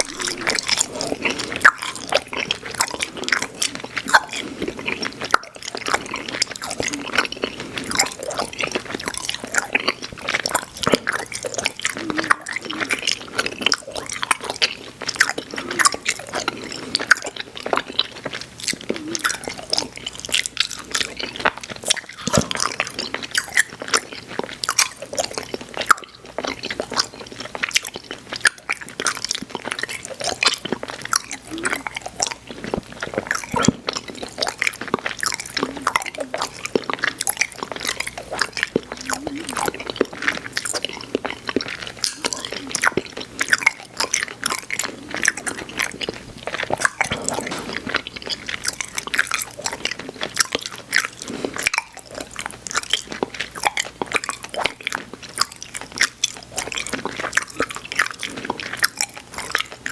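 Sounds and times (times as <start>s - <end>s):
chewing candy with wet mouth sounds: 0.0s - 59.9s.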